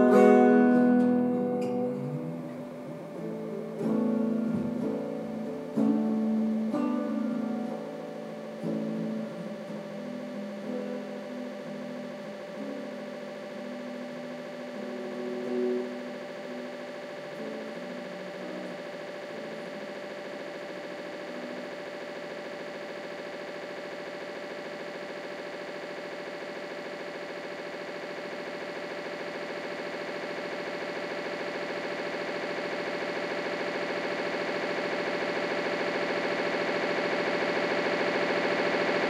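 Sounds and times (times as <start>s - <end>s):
ambient electronic drone music: 0.0s - 39.0s.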